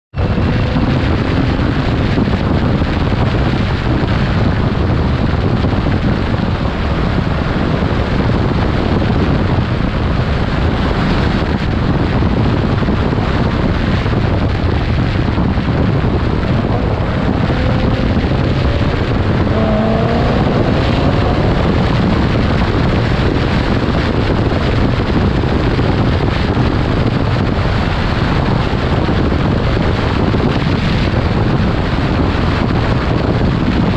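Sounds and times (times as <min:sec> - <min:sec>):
road and engine noise: 0:00.1 - 0:33.9
wind buffeting microphone: 0:00.1 - 0:33.9.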